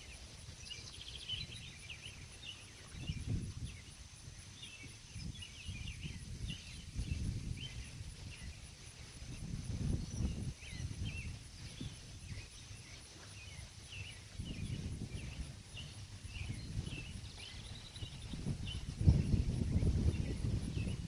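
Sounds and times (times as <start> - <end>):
small birds chirping: 0.0 - 21.0
gusty wind on microphone: 0.9 - 21.0.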